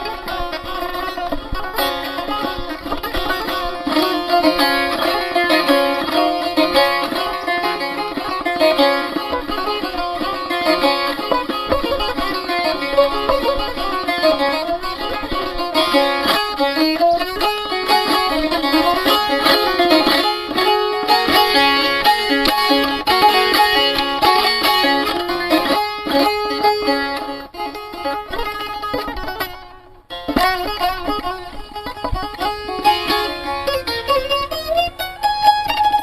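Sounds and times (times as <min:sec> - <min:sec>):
plucked string instrument melody: 0:00.0 - 0:36.0.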